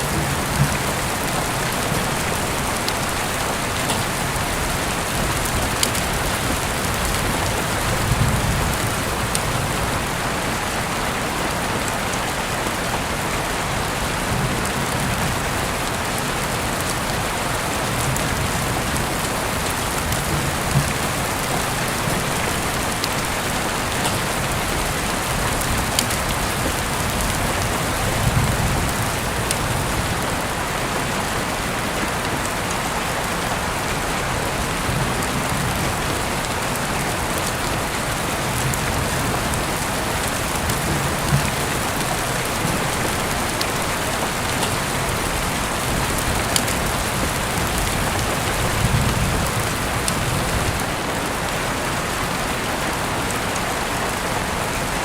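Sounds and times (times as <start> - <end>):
raindrops ticking: 0.0 - 10.2, 11.8 - 31.1, 32.0 - 51.2
heavy rain hiss: 0.0 - 55.0.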